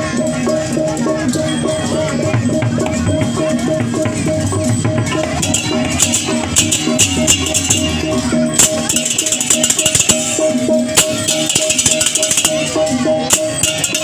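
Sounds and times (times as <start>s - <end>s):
jangling cymbals: 0.0s - 14.0s
repeated metallic note: 0.1s - 14.0s
sharp drum strokes: 0.4s - 14.0s.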